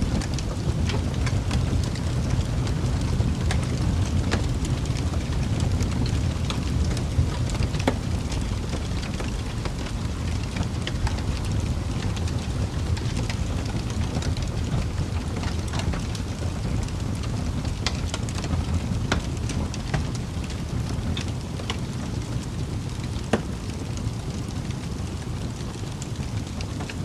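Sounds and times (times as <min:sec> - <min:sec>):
fire crackling in fireplace: 0:00.0 - 0:27.0.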